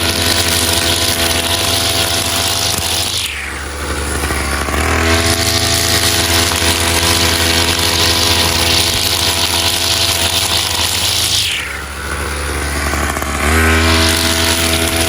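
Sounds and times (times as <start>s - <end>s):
brush cutter engine revving: 0.0s - 15.0s.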